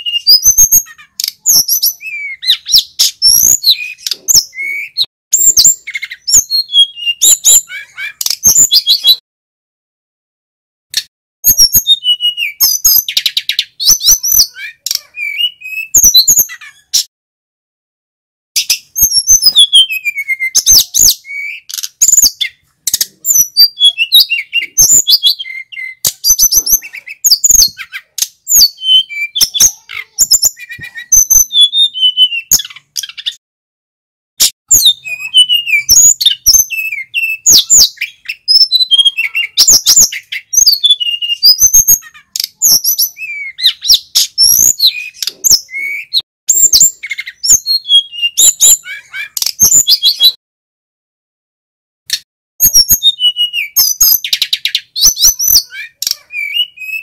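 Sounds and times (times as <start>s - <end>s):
bird singing rapid chirps and whistles: 0.0s - 9.2s, 11.0s - 17.1s, 18.6s - 33.4s, 34.4s - 50.4s, 52.1s - 57.0s.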